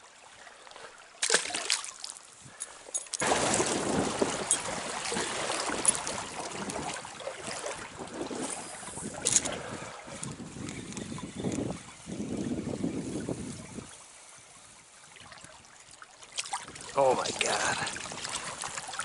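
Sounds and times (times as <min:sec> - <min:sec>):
stream water running: 0:00.0 - 0:19.0
water splashing: 0:00.5 - 0:19.0.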